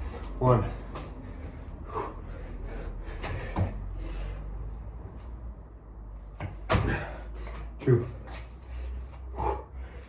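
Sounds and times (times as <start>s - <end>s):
hard breathing: 0.0s - 5.4s, 6.8s - 10.0s.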